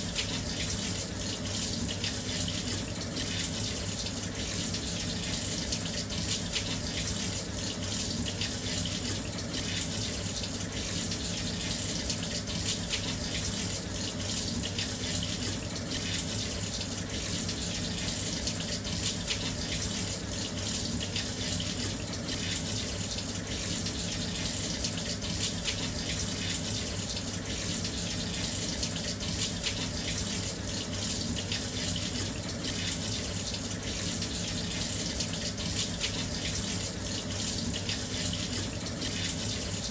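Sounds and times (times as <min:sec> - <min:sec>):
water pouring into washing machine: 0:00.0 - 0:39.9.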